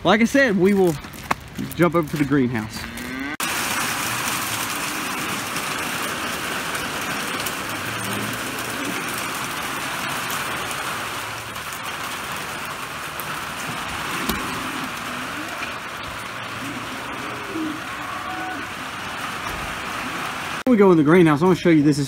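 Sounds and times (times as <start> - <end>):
heavy rain: 0.0 - 21.3.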